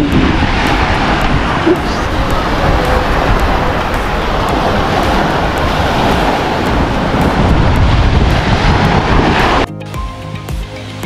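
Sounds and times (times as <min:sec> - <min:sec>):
sea waves breaking on sand: 0:00.0 - 0:09.7
wind buffeting microphone: 0:00.0 - 0:09.7.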